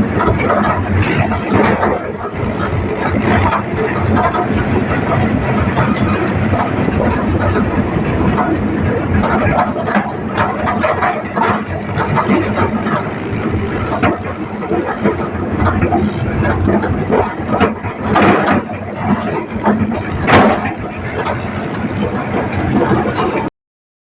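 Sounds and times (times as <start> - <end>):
clattering and rattling knocks: 0.0 - 23.5
tractor engine running: 0.0 - 23.5.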